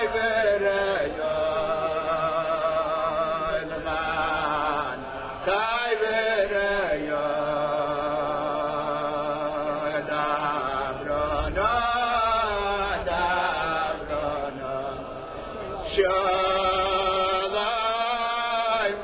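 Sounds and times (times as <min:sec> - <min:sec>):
person chanting liturgical melody: 0:00.0 - 0:19.0.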